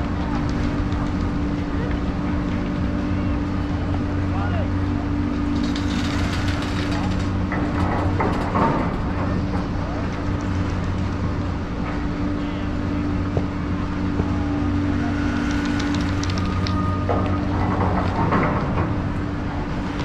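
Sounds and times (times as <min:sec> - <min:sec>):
drive machinery hum: 0:00.0 - 0:20.0.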